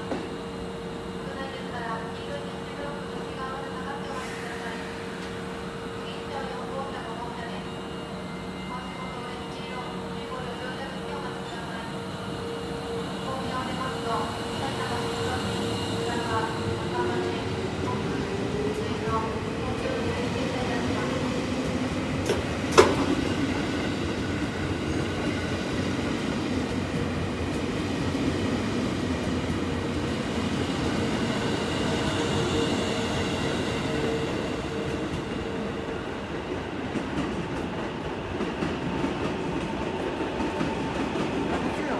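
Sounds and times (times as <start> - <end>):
rail noise: 0.0 - 41.9.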